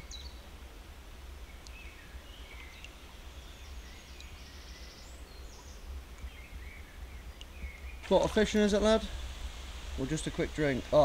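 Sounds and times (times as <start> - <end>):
small birds chirping: 0.0 - 0.6, 1.2 - 11.0.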